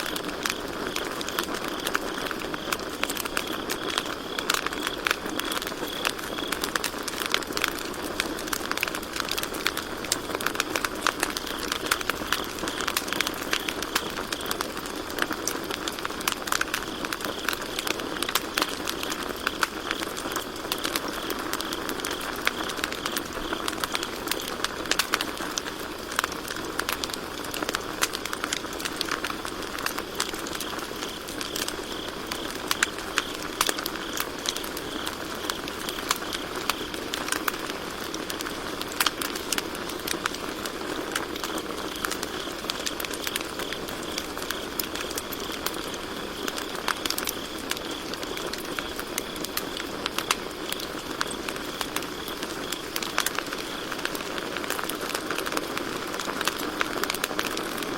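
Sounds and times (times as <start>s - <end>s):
campfire crackling and popping: 0.0s - 57.9s
crickets chirping: 0.0s - 57.9s.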